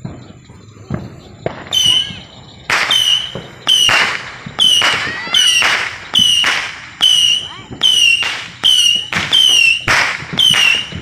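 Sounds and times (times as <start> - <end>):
whistling rockets launching: 0.0 - 11.0.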